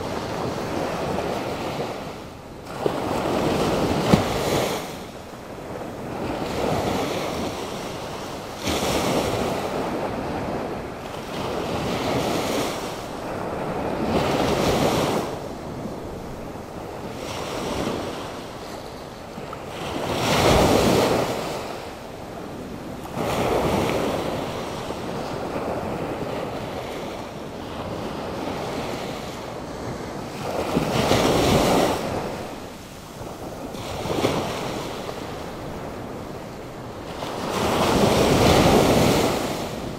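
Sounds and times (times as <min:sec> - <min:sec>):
ocean waves crashing: 0:00.0 - 0:39.9
wind buffeting microphone: 0:00.0 - 0:39.9.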